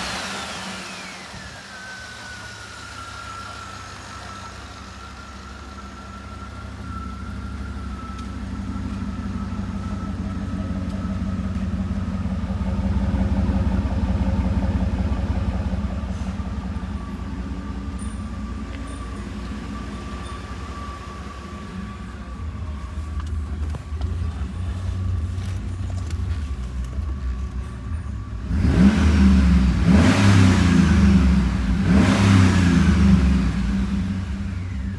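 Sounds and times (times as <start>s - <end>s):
car engine revving: 0.0s - 27.7s, 28.3s - 34.9s.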